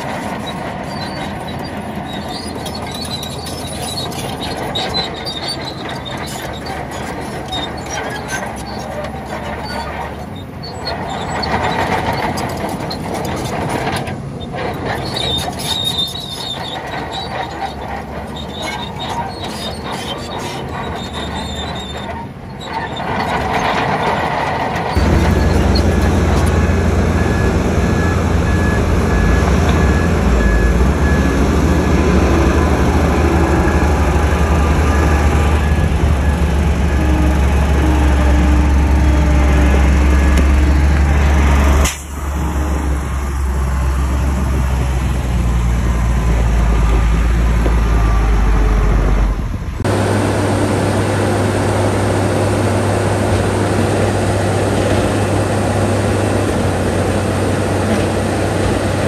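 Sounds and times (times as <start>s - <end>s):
bulldozer tracks squealing and clattering: 0.0s - 59.0s
heavy diesel engine: 0.0s - 59.0s.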